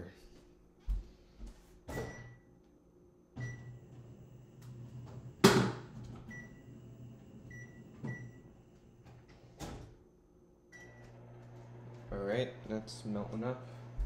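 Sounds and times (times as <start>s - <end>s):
microwave oven humming: 2.0s - 14.0s.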